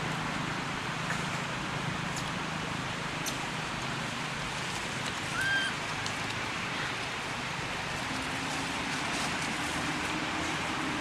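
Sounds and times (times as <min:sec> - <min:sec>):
steady forest hiss: 0:00.0 - 0:11.0.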